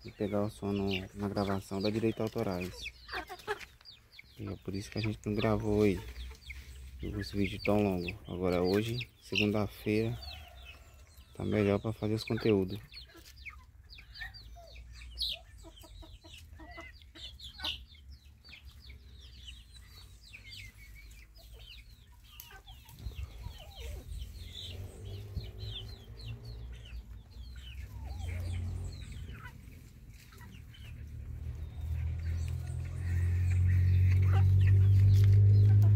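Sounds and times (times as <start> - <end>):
young chickens peeping: 0.0 - 35.9.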